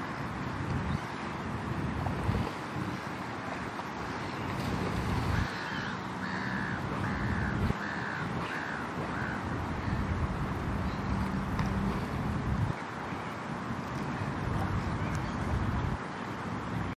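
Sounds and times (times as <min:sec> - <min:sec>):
wind noise on microphone: 0:00.0 - 0:16.9.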